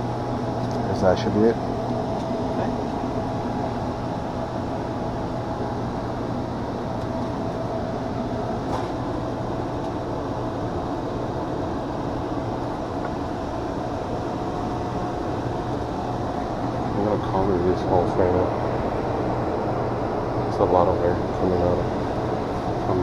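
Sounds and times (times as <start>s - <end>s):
air conditioner blower running: 0.0s - 23.0s.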